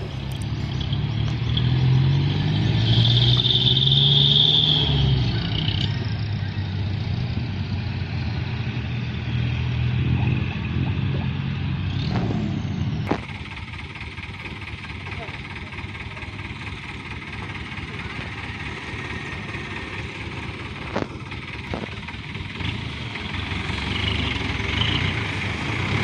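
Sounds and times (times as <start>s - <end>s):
truck diesel engine under load: 0.0s - 26.0s.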